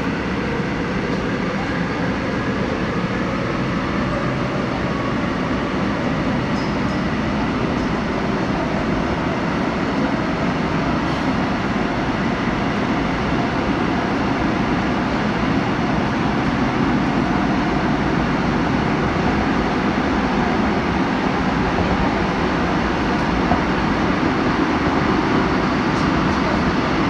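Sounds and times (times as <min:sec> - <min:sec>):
train rumbling through tunnel: 0:00.0 - 0:27.0.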